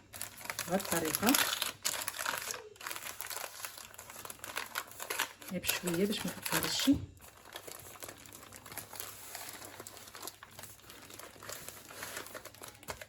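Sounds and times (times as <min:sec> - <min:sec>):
baking paper crinkling: 0:00.0 - 0:13.0.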